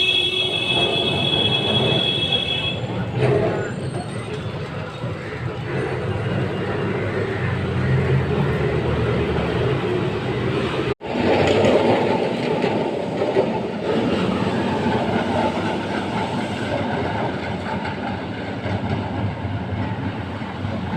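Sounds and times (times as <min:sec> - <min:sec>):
electric tram rumbling on rails: 0:00.0 - 0:20.9.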